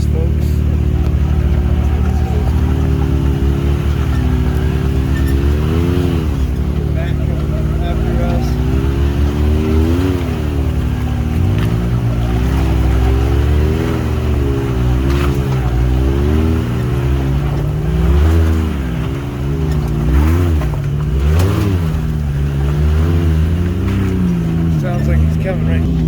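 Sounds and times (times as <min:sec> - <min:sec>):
engine revving on and off: 0:00.0 - 0:26.0.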